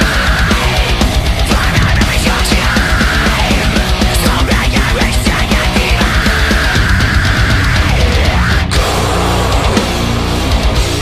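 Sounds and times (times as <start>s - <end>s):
heavy metal music: 0.0s - 11.0s.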